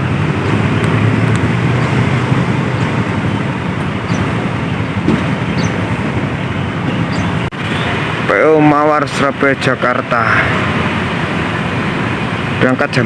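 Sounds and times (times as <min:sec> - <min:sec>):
bus engine running: 0:00.0 - 0:13.0
traffic and road noise: 0:00.0 - 0:13.0.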